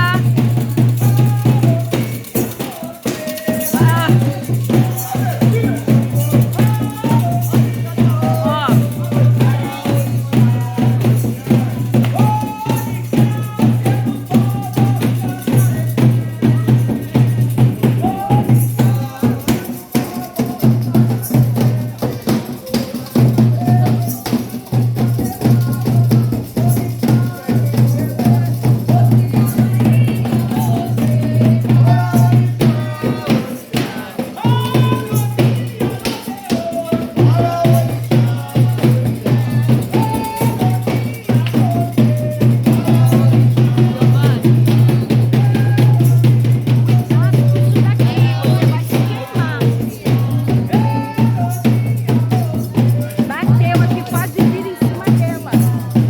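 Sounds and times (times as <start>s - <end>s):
fast drum percussion: 0.0s - 56.0s
voices singing: 0.0s - 56.0s.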